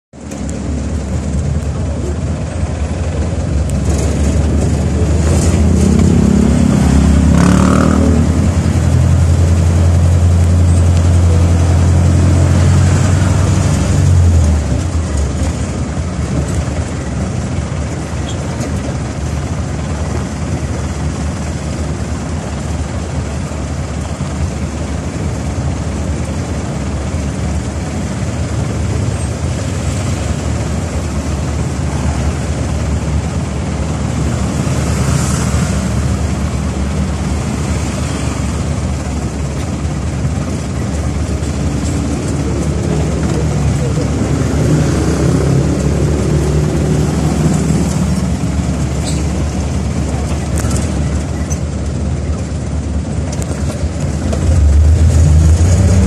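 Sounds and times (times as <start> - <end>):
vehicle engine droning: 0.2 - 56.0.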